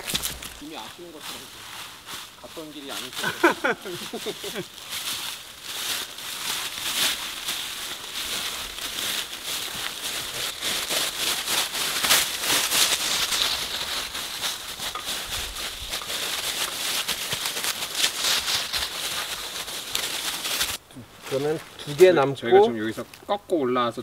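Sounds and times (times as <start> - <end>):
footsteps crunching dry leaves: 0.0 - 22.3.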